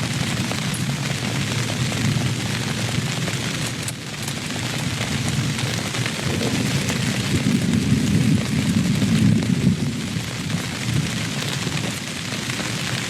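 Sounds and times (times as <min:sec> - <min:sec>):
deep continuous rumble: 0:00.0 - 0:13.0
heavy rain: 0:00.0 - 0:13.0.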